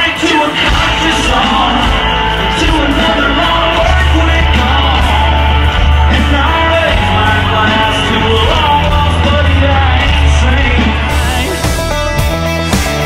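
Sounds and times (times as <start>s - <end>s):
drums: 0.0s - 13.0s
electric guitar: 0.0s - 13.0s
heavy bass: 0.0s - 13.0s
live rock band playing: 0.0s - 13.0s.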